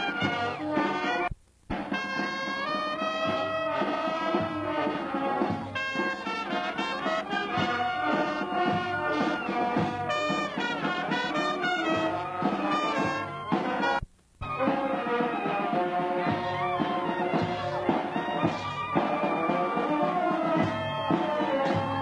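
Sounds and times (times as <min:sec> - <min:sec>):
brass band playing: 0:00.0 - 0:22.0.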